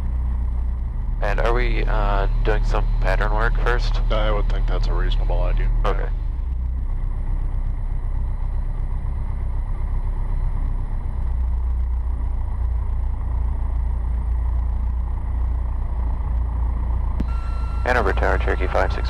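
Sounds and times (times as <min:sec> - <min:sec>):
aircraft piston engine droning: 0:00.0 - 0:19.0
faint high whine: 0:00.0 - 0:19.0.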